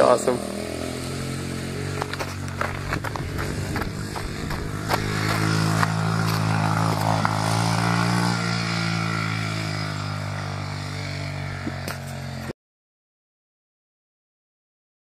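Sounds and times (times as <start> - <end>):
dirt bike engine passing: 0.0 - 12.5.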